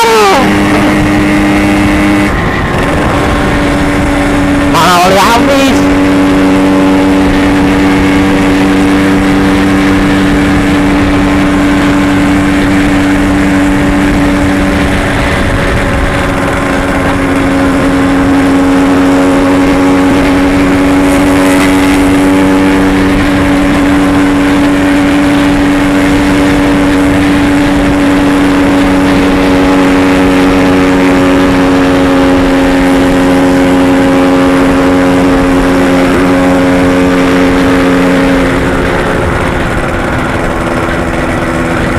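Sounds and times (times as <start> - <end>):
road and wind noise: 0.0 - 41.9
two-stroke motorcycle engine: 0.0 - 41.9.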